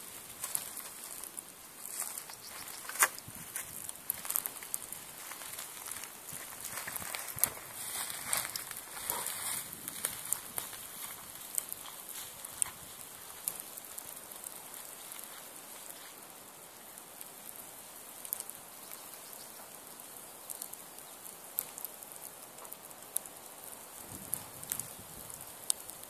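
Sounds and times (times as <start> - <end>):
campfire hissing: 0.0 - 26.0
fire crackles and pops: 0.0 - 26.0.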